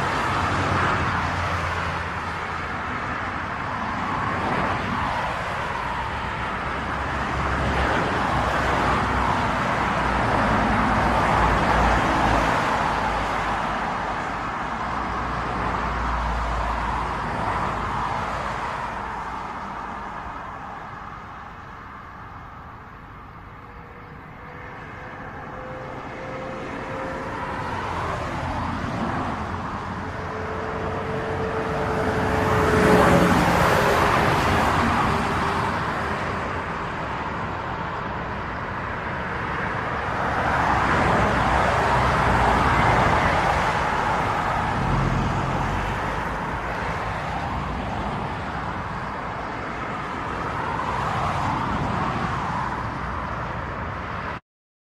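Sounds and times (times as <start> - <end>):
cars passing on highway: 0.0 - 54.4.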